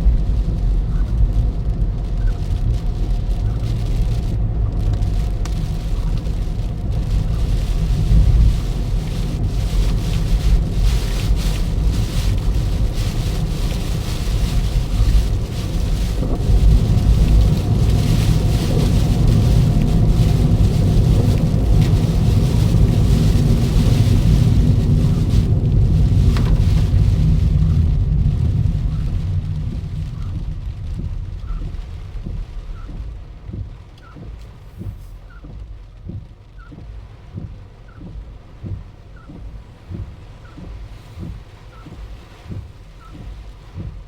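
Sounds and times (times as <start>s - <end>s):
car driving low rumble: 0.0s - 44.0s
rain hiss: 0.0s - 44.0s
wind: 0.0s - 44.0s.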